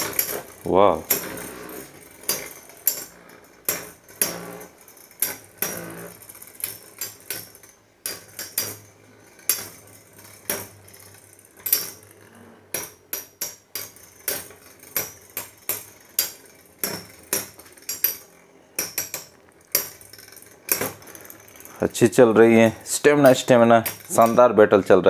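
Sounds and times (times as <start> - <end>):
spinning tops clacking together: 0.0 - 25.0.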